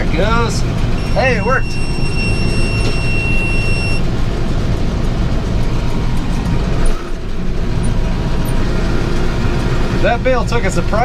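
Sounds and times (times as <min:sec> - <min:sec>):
round baler turning: 0:00.0 - 0:11.0
tractor engine running: 0:00.0 - 0:11.0.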